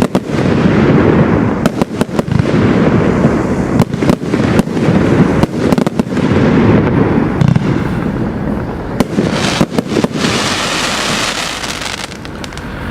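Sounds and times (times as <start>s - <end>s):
firework bangs: 0.0s - 12.9s
firework crackling: 0.0s - 12.9s.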